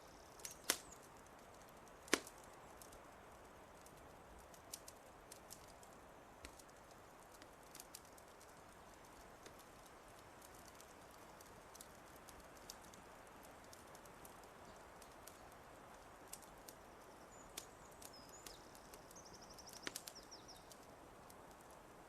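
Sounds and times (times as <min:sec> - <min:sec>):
wood fire crackling faintly: 0:00.0 - 0:22.0.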